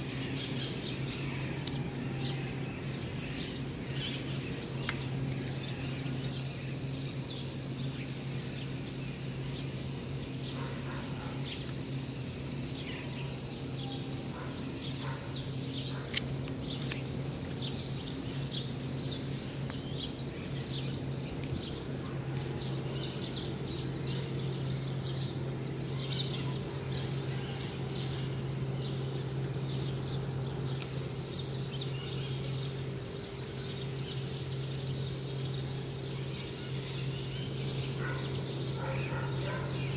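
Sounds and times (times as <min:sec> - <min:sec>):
birds chirping and trilling: 0:00.0 - 0:39.9
steady low hum: 0:00.0 - 0:39.9.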